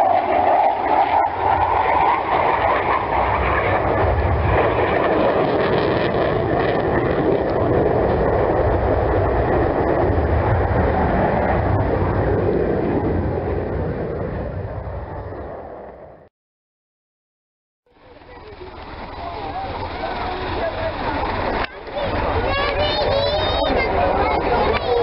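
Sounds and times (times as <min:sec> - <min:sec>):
fighter jet engine rumble: 0:00.0 - 0:16.3, 0:17.9 - 0:25.0.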